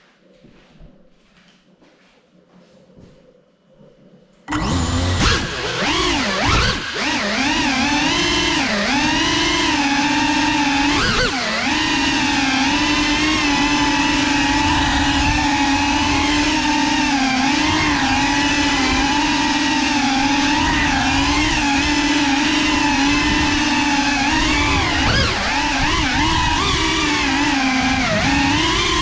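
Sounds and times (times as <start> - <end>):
drone motors whining: 4.5 - 29.0.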